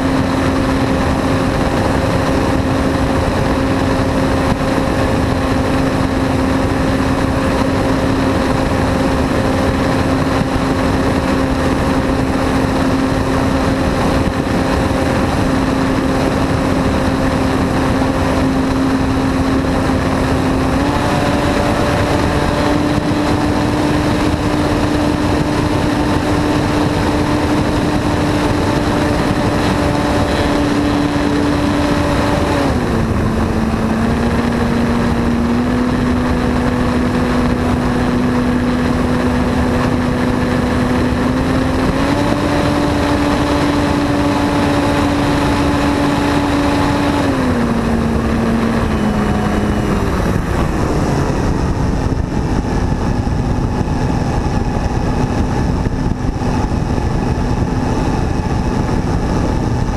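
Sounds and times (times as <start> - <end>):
model aircraft motor and propeller: 0.0 - 59.9
wind noise: 0.0 - 59.9.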